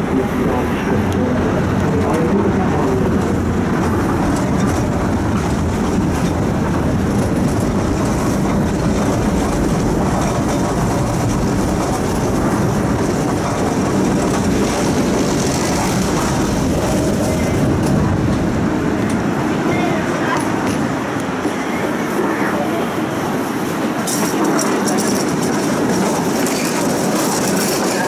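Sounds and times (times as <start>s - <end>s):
tram wheels rumbling on track: 0.0s - 28.0s.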